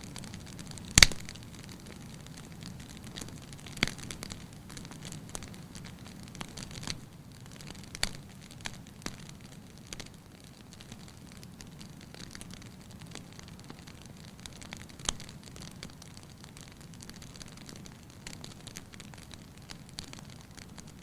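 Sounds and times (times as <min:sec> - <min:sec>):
fire crackling and popping: 0:00.0 - 0:21.0
wood fire rumbling: 0:00.0 - 0:21.0.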